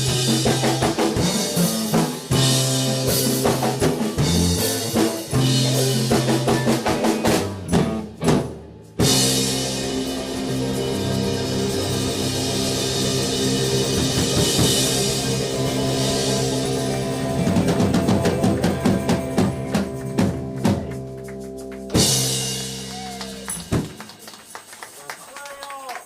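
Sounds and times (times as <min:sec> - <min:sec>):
rock band playing: 0:00.0 - 0:25.1.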